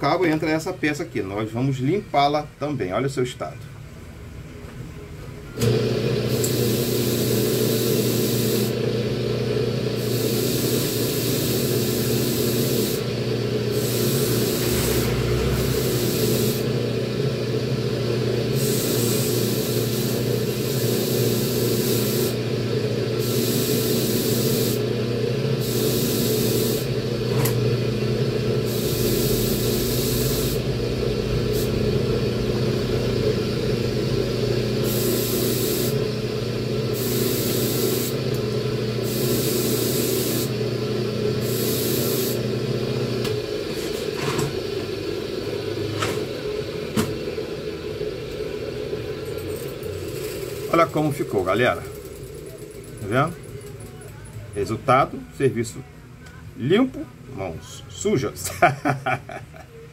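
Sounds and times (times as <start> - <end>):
bench motor running: 5.6 - 54.3.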